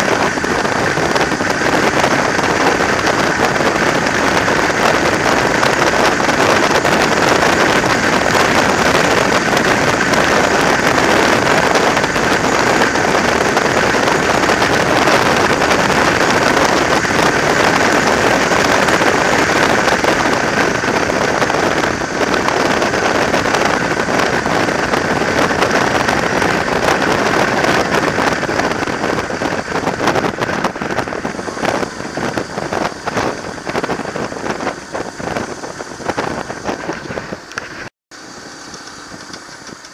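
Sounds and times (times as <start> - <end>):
motorcycle underway: 0.0 - 39.9
wind rush on microphone: 0.0 - 39.9.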